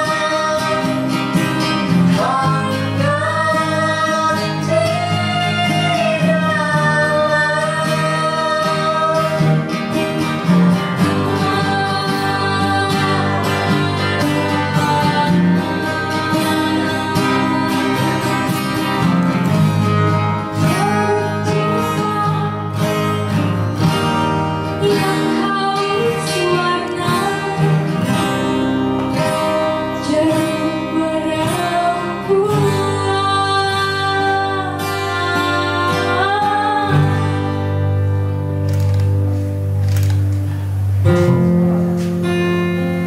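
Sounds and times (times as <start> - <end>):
woman singing: 0.0 - 38.1
bass guitar: 0.0 - 43.0
strummed acoustic guitars: 0.0 - 43.0.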